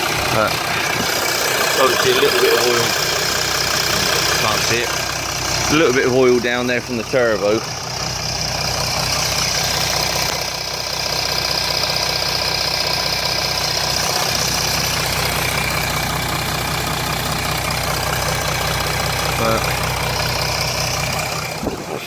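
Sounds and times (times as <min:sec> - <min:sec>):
diesel engine idling with rattle: 0:00.0 - 0:22.0.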